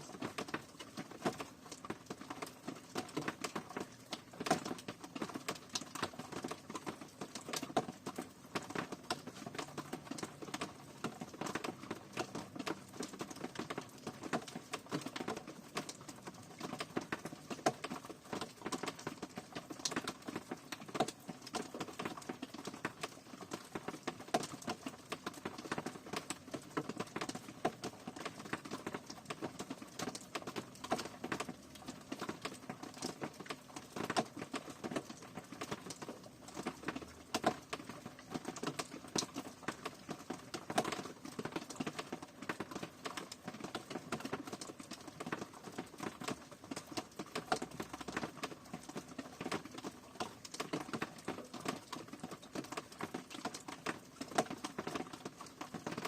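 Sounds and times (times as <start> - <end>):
rain drops pattering: 0.0 - 56.0.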